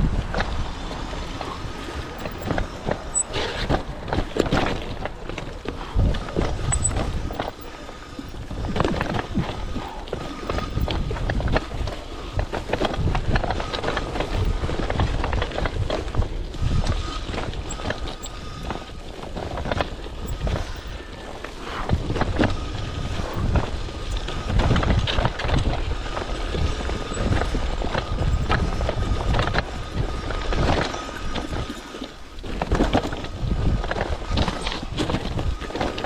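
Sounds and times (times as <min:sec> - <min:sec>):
bike rattling over stones: 0:00.0 - 0:36.0
wind rumble on microphone: 0:00.0 - 0:36.0.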